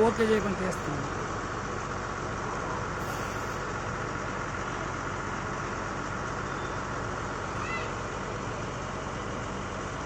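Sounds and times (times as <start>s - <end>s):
drilling rig engine running: 0.0s - 10.0s.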